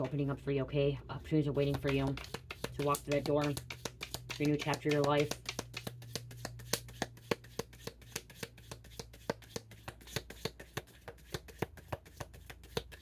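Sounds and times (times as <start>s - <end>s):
cards being shuffled: 1.6s - 13.0s.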